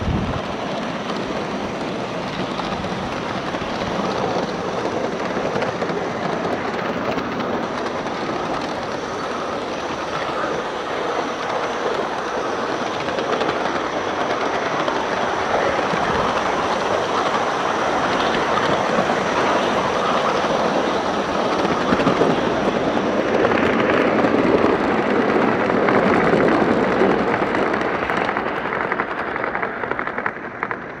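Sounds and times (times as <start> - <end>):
model train wheels rattling on rail: 0.1 - 31.0.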